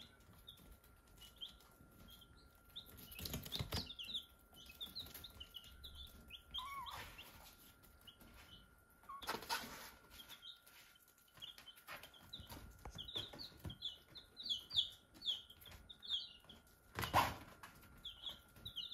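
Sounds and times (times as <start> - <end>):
baby chicks peeping: 0.0 - 18.9.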